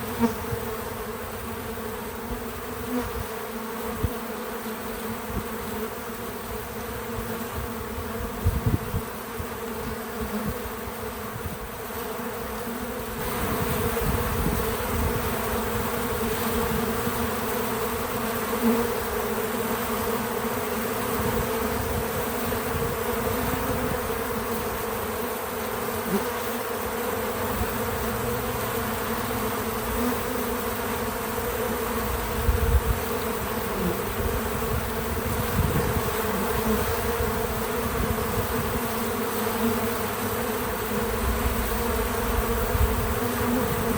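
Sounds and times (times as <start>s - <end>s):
bees buzzing: 0.0s - 43.9s.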